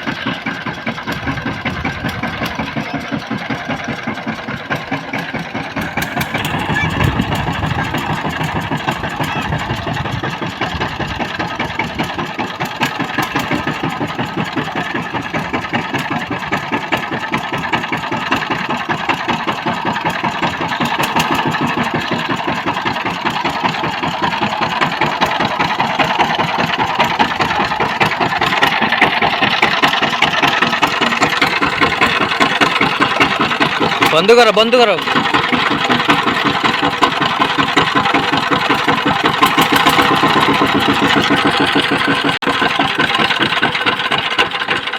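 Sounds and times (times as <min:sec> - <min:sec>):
diesel tiller engine running: 0:00.0 - 0:44.9.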